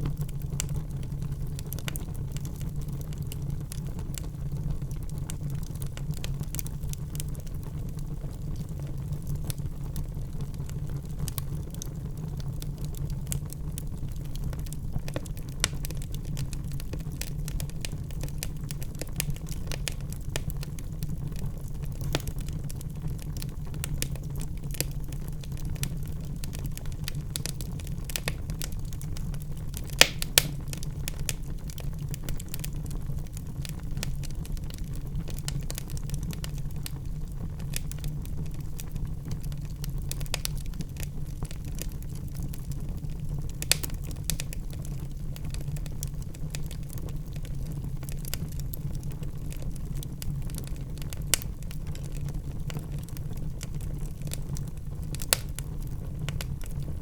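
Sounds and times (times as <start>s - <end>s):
crackles and pops of burning logs: 0.0s - 57.0s
low rumble of flames: 0.0s - 57.0s.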